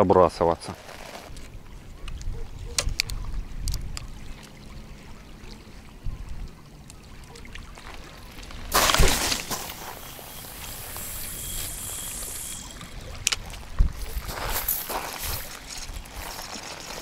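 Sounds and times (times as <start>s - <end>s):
small waves lapping: 0.9s - 17.0s
wind rumbling on microphone: 1.3s - 17.0s.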